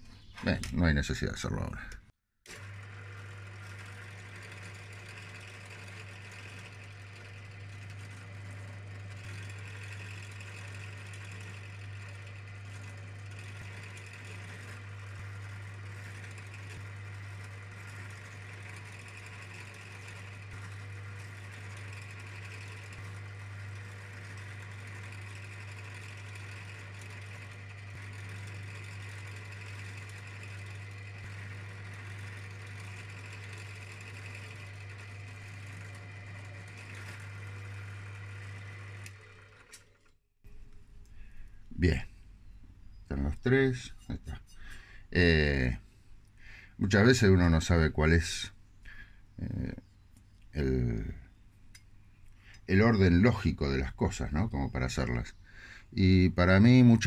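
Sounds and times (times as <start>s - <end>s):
drill press motor humming: 2.0s - 47.6s, 48.2s - 57.0s.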